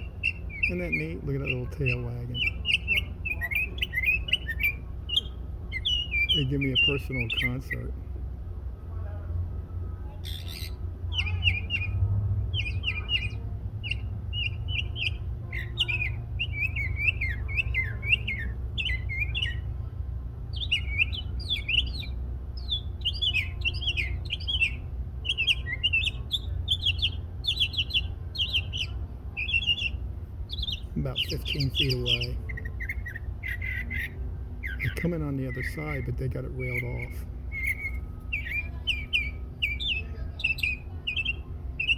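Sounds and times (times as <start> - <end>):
songbird singing: 0.0 - 41.9
steady low rumble: 0.0 - 41.9.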